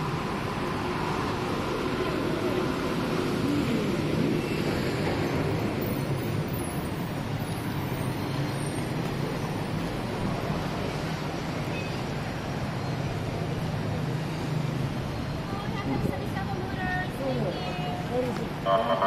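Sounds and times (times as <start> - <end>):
road noise: 0.0 - 19.0
vehicle engines humming: 0.0 - 19.0.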